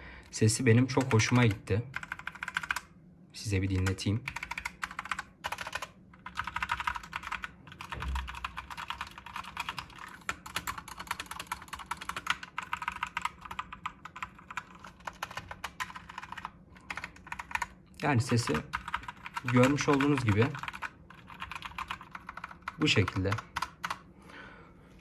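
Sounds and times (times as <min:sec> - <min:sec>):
mechanical keyboard typing: 0:00.8 - 0:02.9, 0:03.7 - 0:24.0.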